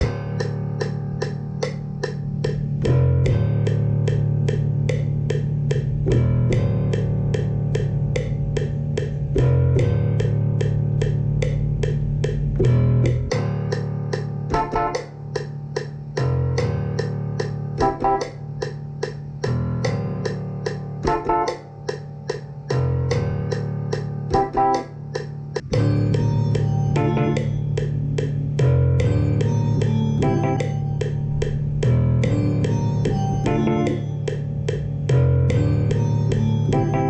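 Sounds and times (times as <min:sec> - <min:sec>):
bass line: 0:00.0 - 0:37.0
electronic melody notes: 0:00.0 - 0:37.0.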